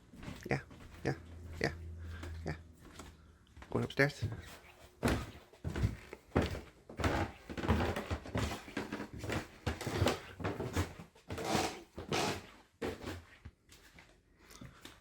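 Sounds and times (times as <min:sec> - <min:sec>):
footsteps climbing stairs: 0:00.0 - 0:13.2.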